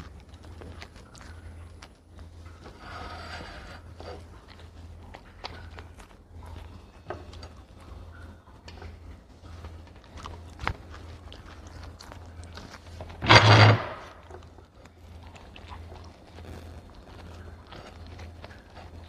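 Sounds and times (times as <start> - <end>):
dog chewing food: 0.0 - 19.0
faint steady hum: 0.0 - 19.0.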